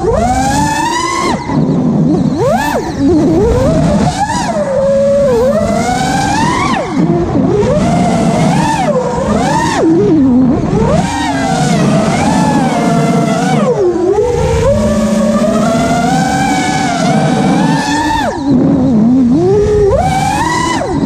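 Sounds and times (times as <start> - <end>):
quadcopter motors whining: 0.0 - 21.0
wind and prop wash rushing: 0.0 - 21.0.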